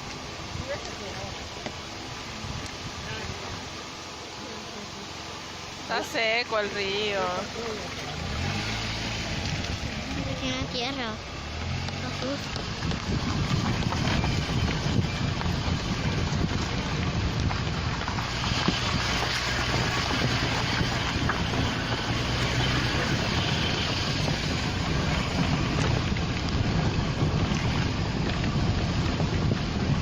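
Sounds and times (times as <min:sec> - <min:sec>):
wind buffeting microphone: 0:05.6 - 0:30.0.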